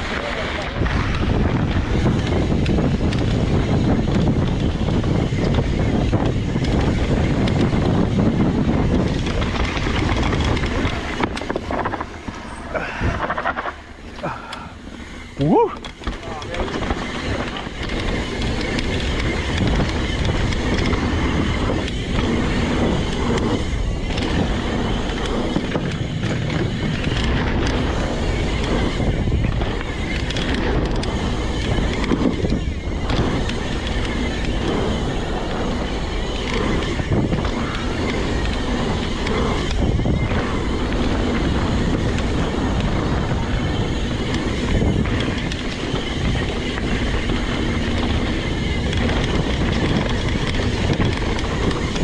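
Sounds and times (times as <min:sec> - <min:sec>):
bike clicks and rattles: 0:00.0 - 0:52.0
bike tyres rumbling on dirt: 0:00.0 - 0:52.0
wind noise on microphone: 0:00.0 - 0:52.0.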